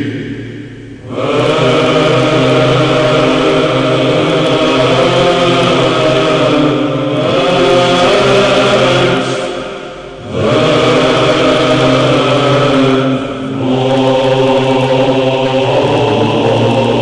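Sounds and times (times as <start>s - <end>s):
low vocal drone: 0.0s - 17.0s
voices chanting slow melody: 0.0s - 17.0s.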